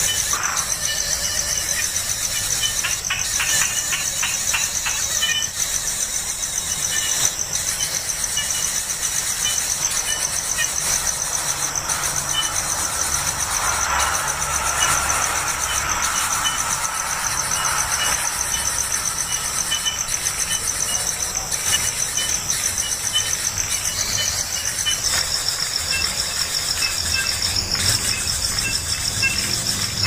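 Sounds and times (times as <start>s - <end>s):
pulsing insect trill: 0.0s - 30.0s.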